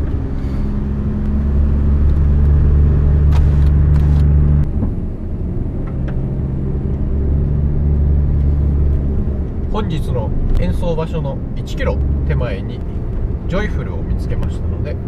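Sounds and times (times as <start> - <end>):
road noise: 0.0 - 15.0
van engine droning: 0.0 - 15.0.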